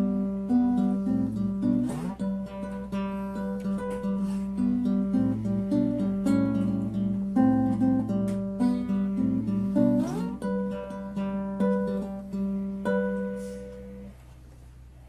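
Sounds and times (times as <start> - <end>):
classical guitar fingerpicked: 0.0 - 14.9.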